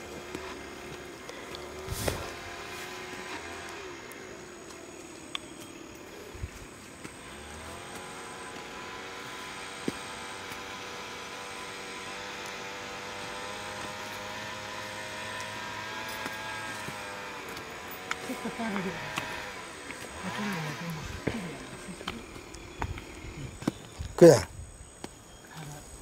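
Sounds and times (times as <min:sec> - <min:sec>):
motor humming: 0:00.0 - 0:24.1.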